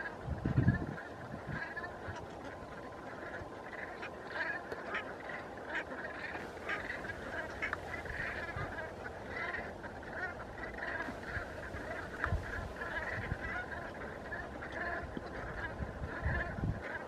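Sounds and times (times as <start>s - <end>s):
flock of geese calling: 0.0s - 17.0s.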